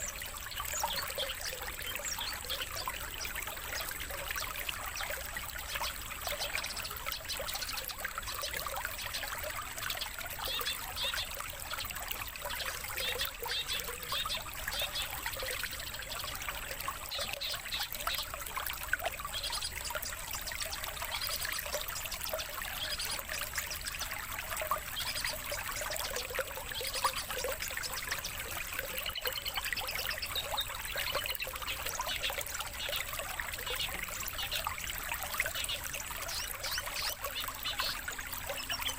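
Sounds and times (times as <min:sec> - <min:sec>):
songbird chirps and calls: 0:00.0 - 0:18.4, 0:19.2 - 0:38.9
water trickling: 0:00.0 - 0:38.9.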